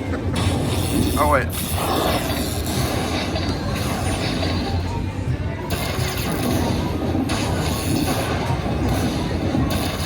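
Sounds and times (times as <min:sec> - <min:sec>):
slot machine music and effects: 0:00.0 - 0:10.0.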